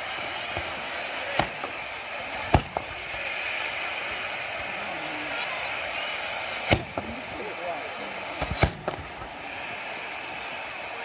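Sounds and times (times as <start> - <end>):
firework spraying sparks with hiss: 0.0 - 11.0.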